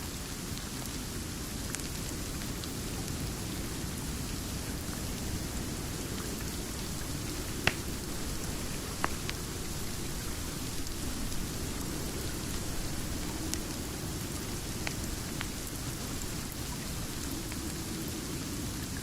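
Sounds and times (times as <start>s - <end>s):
steady rain: 0.0s - 19.0s
crackling fire with pops: 1.6s - 17.8s.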